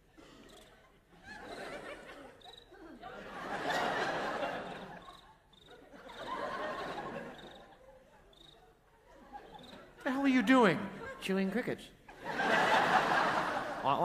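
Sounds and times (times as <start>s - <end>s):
audience laughing: 0.0s - 14.0s.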